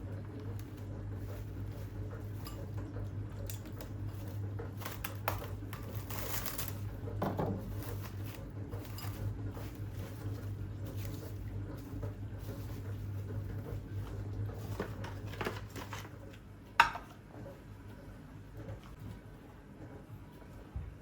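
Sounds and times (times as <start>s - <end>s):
clicks taps and rustles: 0.2s - 19.2s.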